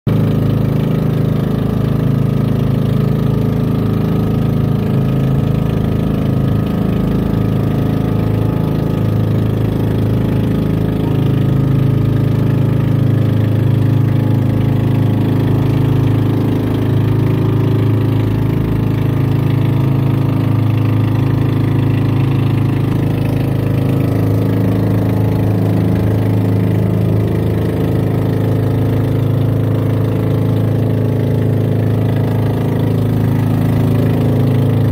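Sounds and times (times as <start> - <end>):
boat engine droning: 0.1 - 34.9.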